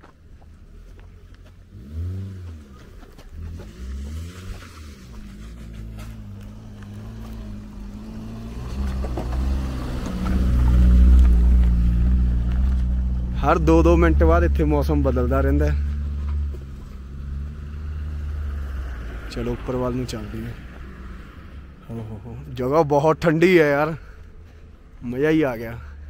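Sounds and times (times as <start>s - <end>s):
car engine revving: 0.8s - 24.2s.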